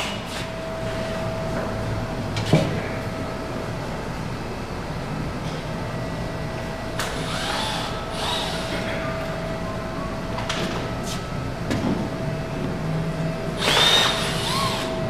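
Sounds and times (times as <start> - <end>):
steady hum with faint tone: 0.0 - 15.0.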